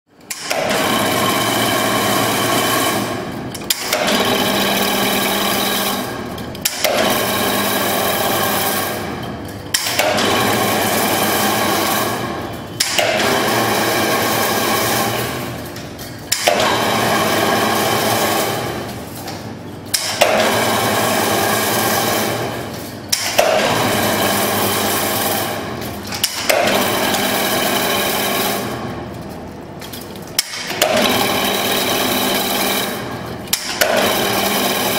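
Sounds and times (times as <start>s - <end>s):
fence weaving machine whirring: 0.2s - 19.2s, 20.0s - 34.9s.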